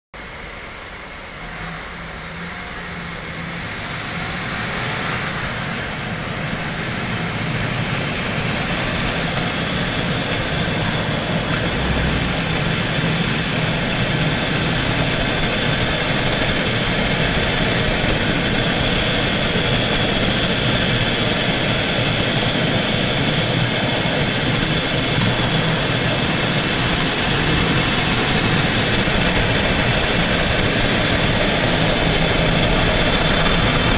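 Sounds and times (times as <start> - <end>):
tyre and road noise: 1.4 - 33.9.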